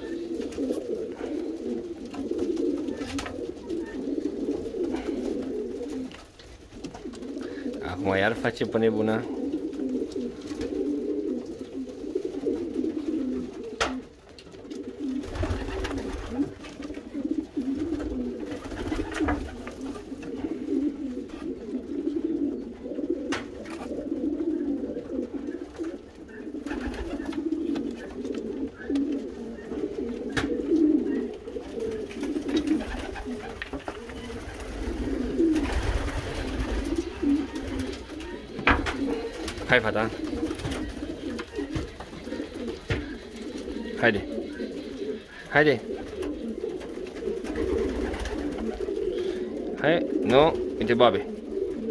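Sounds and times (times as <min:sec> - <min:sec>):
pigeon cooing: 0:00.0 - 0:51.9.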